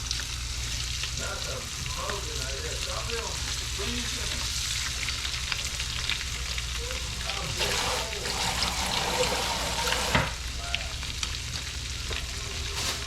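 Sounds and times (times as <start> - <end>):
fish frying in butter: 0.0 - 13.0.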